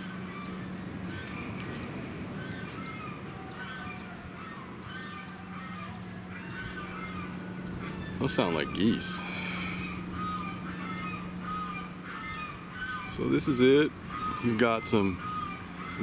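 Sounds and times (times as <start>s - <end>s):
flock of birds calling: 0.0s - 16.0s
steady background rush: 0.0s - 16.0s.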